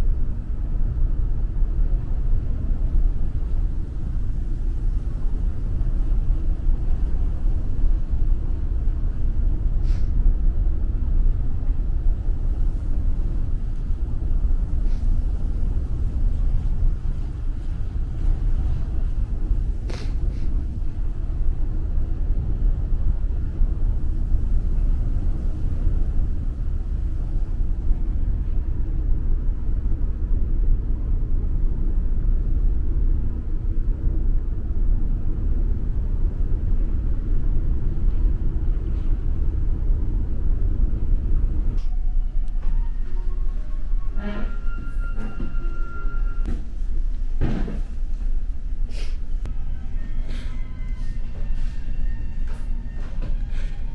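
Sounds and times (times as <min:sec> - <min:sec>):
ship engine rumble: 0:00.0 - 0:53.9.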